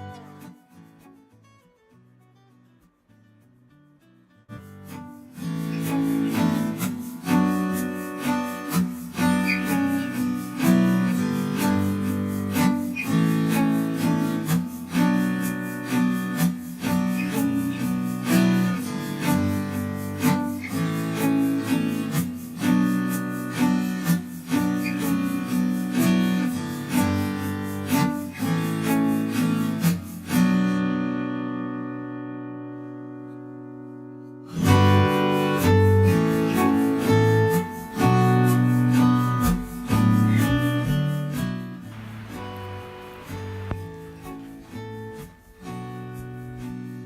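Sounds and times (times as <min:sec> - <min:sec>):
acoustic guitar strumming: 0:00.0 - 0:47.0.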